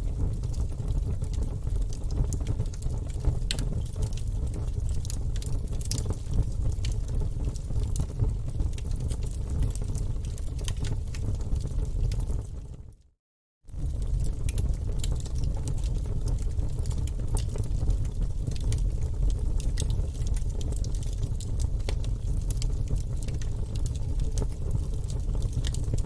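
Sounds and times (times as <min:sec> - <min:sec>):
wood fire crackling and popping: 0:00.0 - 0:12.8, 0:13.7 - 0:26.0.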